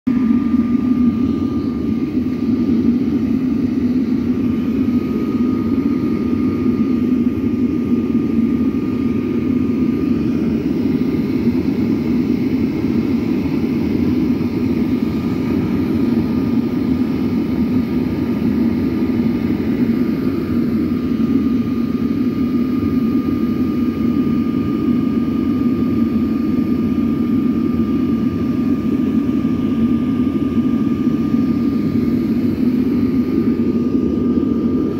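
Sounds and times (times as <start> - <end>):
furnace roaring: 0.1 - 34.9
thin steady whine: 0.1 - 34.9.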